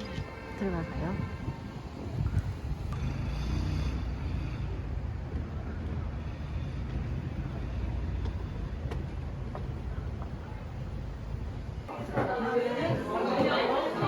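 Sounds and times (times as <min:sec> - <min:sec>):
low background rumble: 0:00.0 - 0:11.9.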